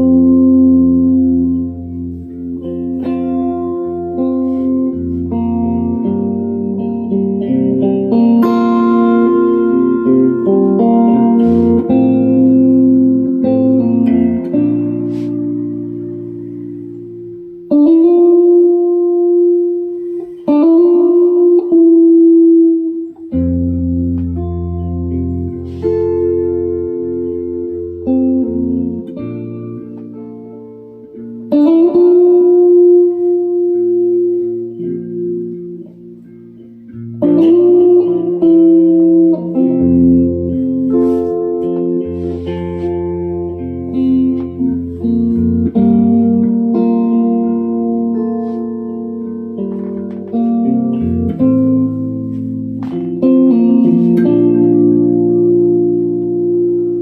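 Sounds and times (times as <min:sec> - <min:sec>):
held chords instrumental music: 0:00.0 - 0:57.0
slow plucked guitar: 0:00.0 - 0:57.0.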